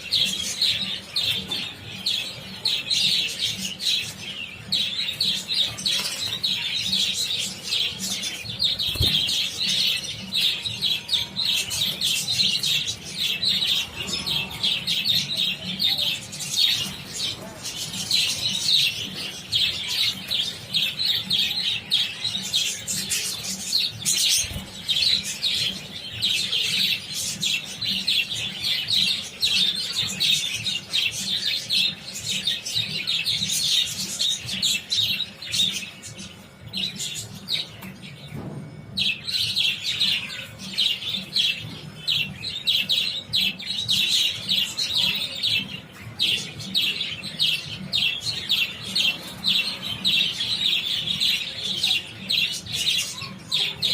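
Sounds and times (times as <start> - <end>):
budgerigars chirping and chattering: 0.0 - 53.9.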